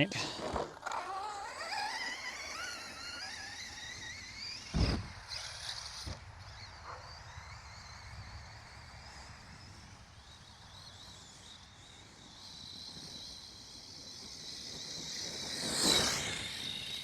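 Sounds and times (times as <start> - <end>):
electric toy truck motor whining: 0.0 - 17.0.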